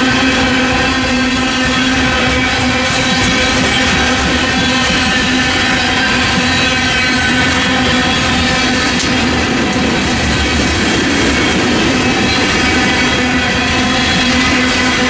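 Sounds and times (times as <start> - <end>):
freight train rumble: 0.0 - 15.0
wheels clacking over rail joints: 0.0 - 15.0.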